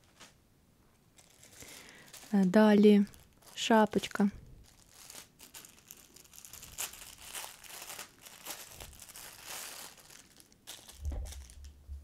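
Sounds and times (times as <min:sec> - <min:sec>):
plastic bag crinkling: 0:01.1 - 0:11.8.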